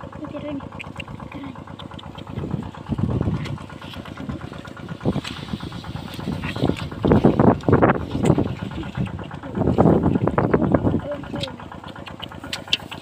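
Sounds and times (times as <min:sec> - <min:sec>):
small pump engine chugging: 0:00.0 - 0:13.0.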